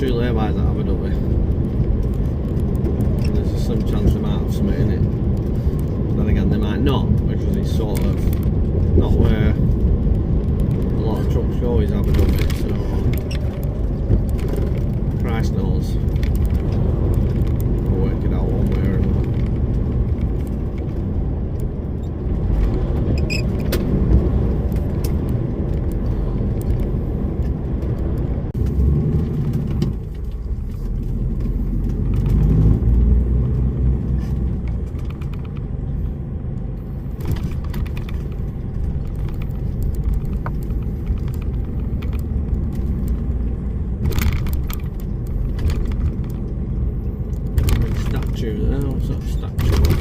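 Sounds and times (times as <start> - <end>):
clicks and rattles: 0.0 - 50.0
lorry engine and road drone: 0.0 - 50.0.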